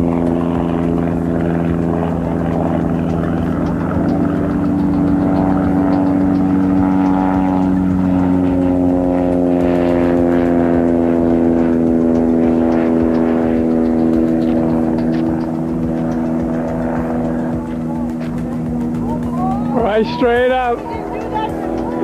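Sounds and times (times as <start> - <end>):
propeller aircraft passing low: 0.0 - 22.0.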